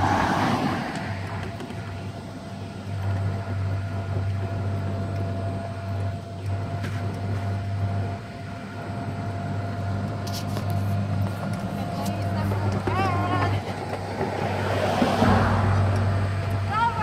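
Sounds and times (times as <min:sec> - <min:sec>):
road noise: 0:00.0 - 0:17.0
vehicle motor running: 0:00.0 - 0:17.0
faint steady whine: 0:00.7 - 0:17.0.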